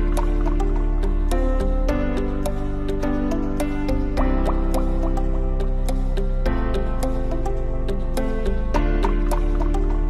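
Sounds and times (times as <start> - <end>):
background music plucked rhythm: 0.0 - 10.0.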